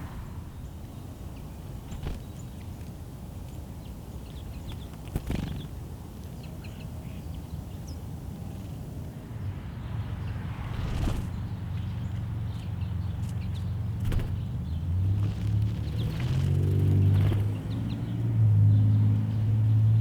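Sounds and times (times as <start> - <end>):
low outdoor rumble: 0.0 - 20.0
songbirds chirping: 0.0 - 20.0.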